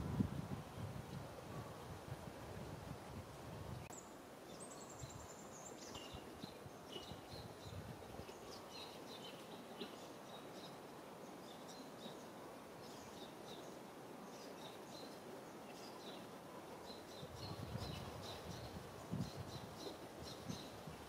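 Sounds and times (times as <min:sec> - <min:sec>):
faint background hiss: 0:00.0 - 0:21.0
small birds chirping: 0:03.9 - 0:20.9.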